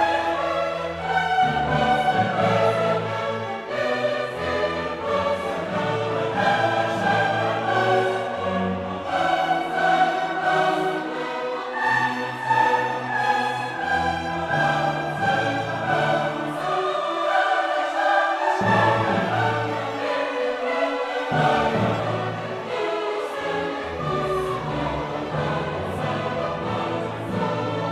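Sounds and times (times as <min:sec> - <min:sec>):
choir singing with orchestra: 0:00.0 - 0:27.9.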